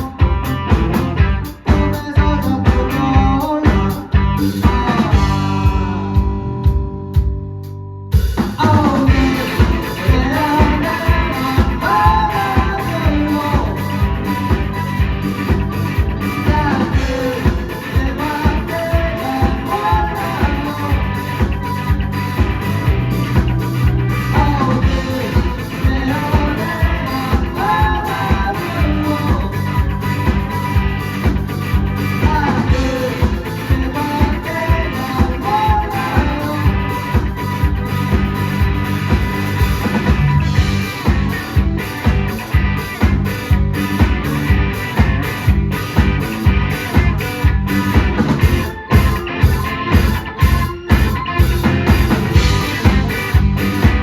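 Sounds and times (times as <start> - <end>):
drums steady beat: 0.0 - 54.0
live rock band playing: 0.0 - 54.0
wavering lead melody: 9.1 - 54.0.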